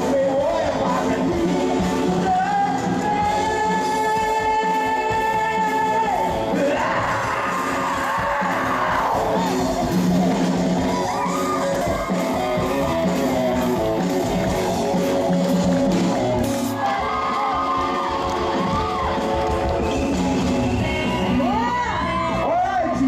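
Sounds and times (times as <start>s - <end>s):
live pop band with guitar: 0.0s - 23.0s.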